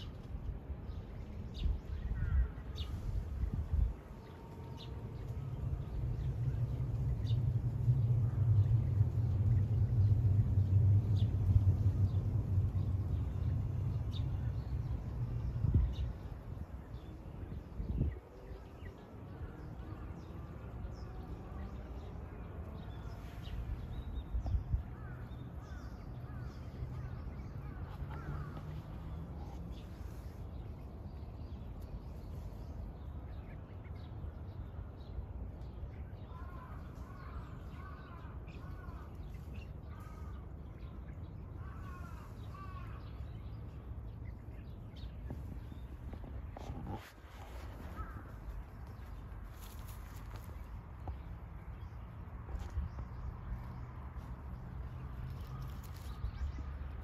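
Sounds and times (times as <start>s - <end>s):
steady low rumble: 0.0s - 57.0s.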